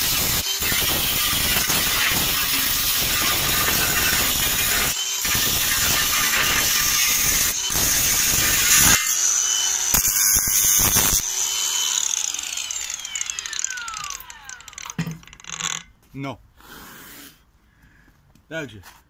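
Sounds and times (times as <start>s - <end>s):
grinder winding down whine: 0.0s - 15.9s
angle grinder cutting steel: 0.0s - 16.0s.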